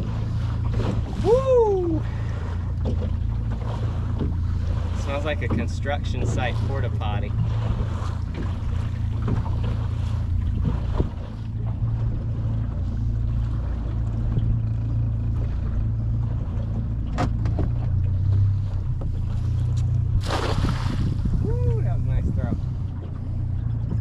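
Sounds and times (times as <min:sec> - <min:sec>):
boat motor idling: 0:00.0 - 0:24.0.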